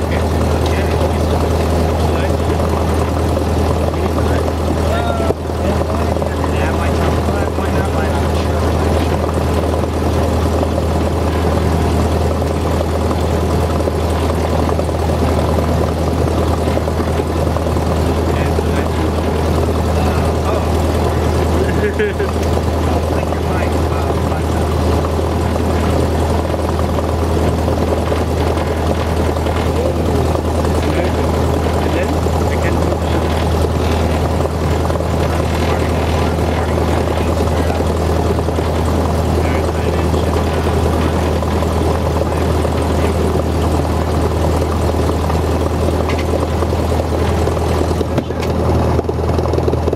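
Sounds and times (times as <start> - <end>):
propeller aircraft engine droning: 0.0 - 49.9.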